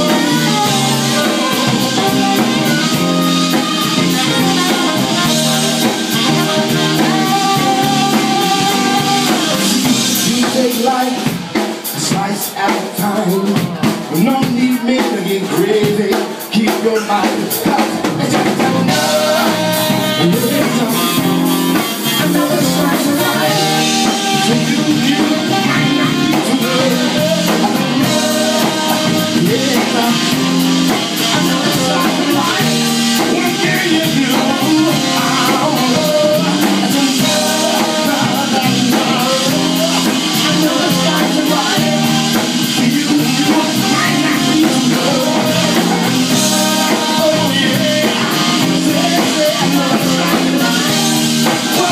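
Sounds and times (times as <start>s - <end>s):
tenor saxophone solo: 0.0s - 10.3s, 18.9s - 51.9s
blues band playing: 0.0s - 51.9s.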